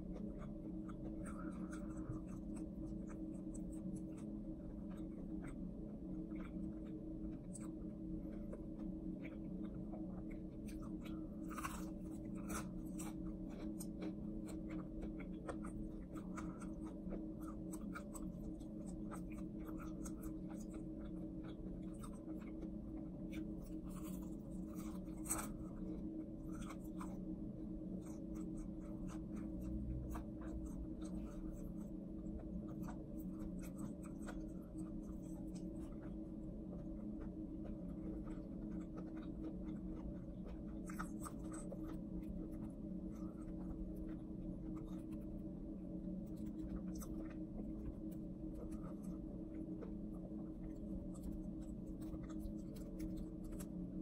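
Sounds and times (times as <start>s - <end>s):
chewing crispy fried chicken: 0.0s - 54.0s
steady low hum: 0.0s - 54.0s.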